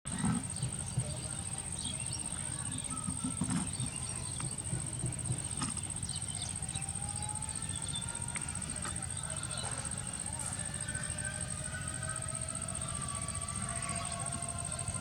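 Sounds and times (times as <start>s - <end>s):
thin high-pitched whine: 0.1s - 15.0s.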